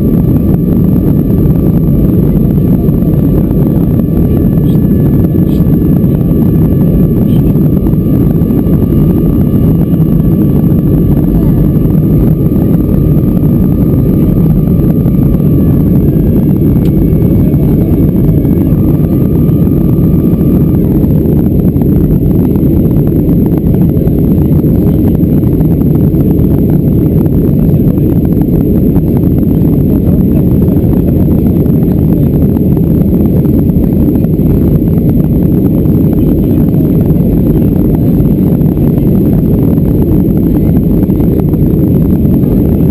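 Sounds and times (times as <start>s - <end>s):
faint high whine: 0.0s - 42.9s
jet engines roaring in cabin: 0.0s - 42.9s
rushing airflow: 0.0s - 42.9s.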